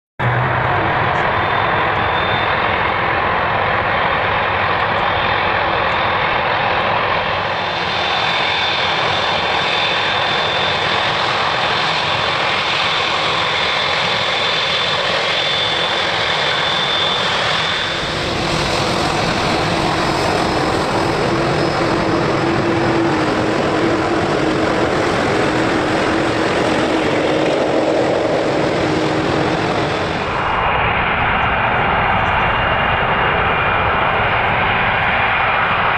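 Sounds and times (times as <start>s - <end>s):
jet engines roaring at takeoff: 0.2s - 35.9s.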